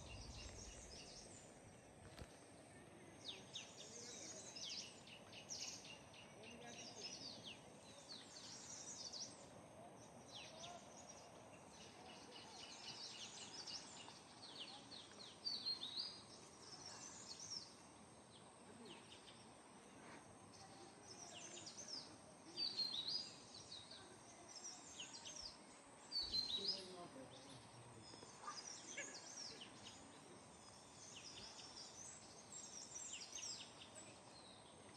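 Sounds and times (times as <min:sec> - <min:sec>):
birds chirping and singing: 0:00.0 - 0:01.5, 0:03.2 - 0:19.5, 0:20.5 - 0:34.9
outdoor background noise: 0:00.0 - 0:34.9.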